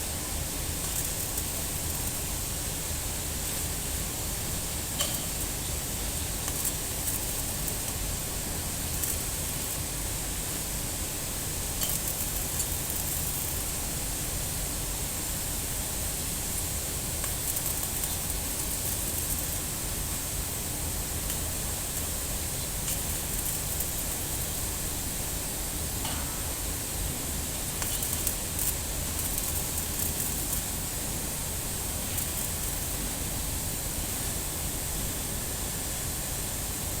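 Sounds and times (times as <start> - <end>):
electric arc welding hiss: 0.0 - 37.0.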